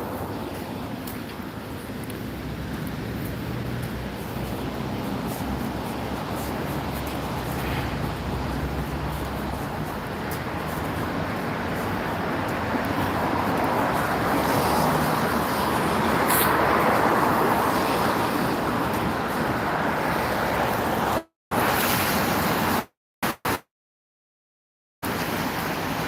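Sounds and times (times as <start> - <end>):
steady rushing noise: 0.0 - 22.6.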